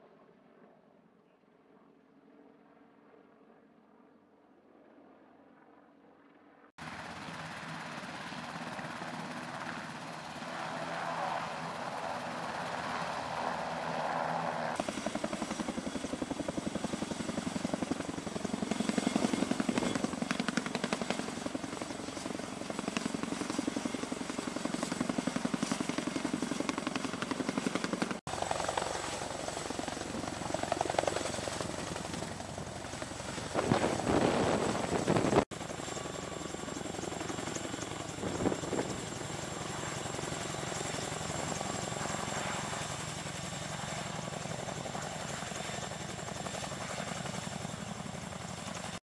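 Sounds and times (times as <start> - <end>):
helicopter rotors beating: 5.0 - 49.0.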